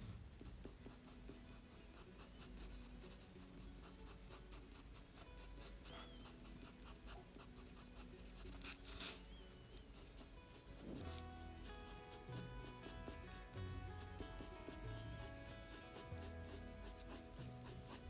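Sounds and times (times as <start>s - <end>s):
pencil scratching on paper: 0.3s - 18.0s.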